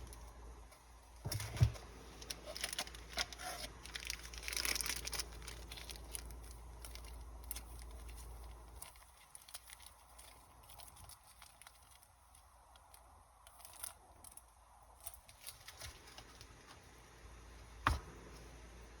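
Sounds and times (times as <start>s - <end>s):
cards and foil wrapping crinkling: 0.0s - 17.5s.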